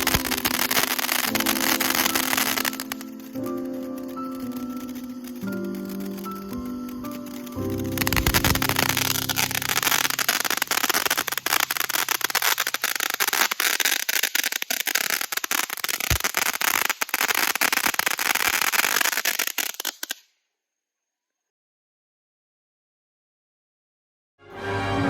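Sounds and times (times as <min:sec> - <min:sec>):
firework hissing crackle and pops: 0:00.0 - 0:20.3.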